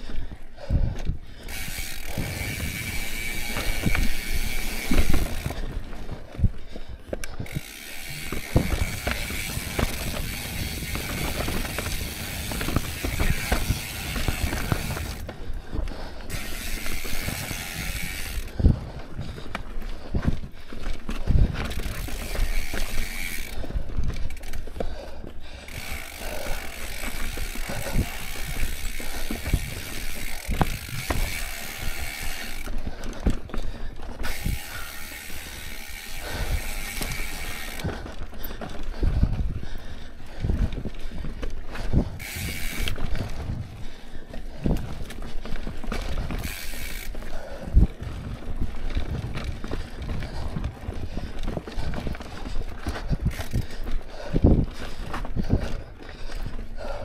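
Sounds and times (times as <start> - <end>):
bike knocking and rattling: 0.0 - 57.0
bike freehub ticking buzz: 0.1 - 57.0.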